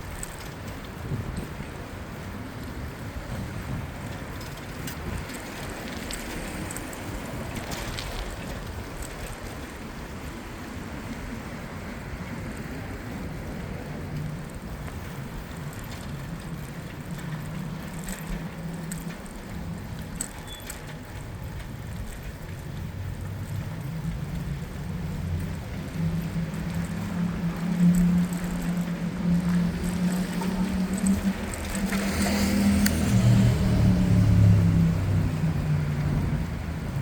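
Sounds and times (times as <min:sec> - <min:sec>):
bicycle road rumble: 0:00.0 - 0:37.0
traffic engine hum: 0:00.0 - 0:37.0
wind: 0:00.0 - 0:37.0.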